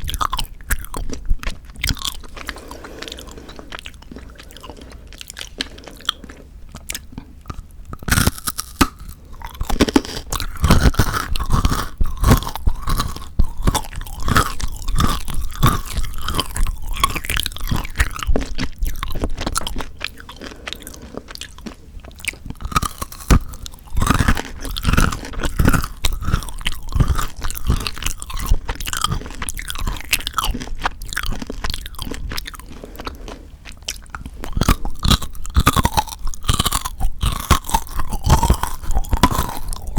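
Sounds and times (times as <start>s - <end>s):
chewing chocolate crunching: 0.0s - 39.9s.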